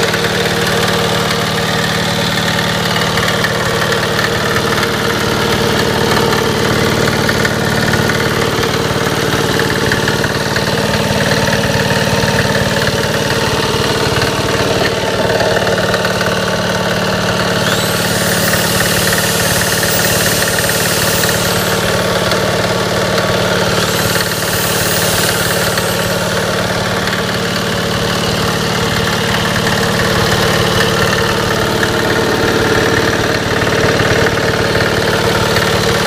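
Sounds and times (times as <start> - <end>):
diesel engine running with knock: 0.0 - 36.0.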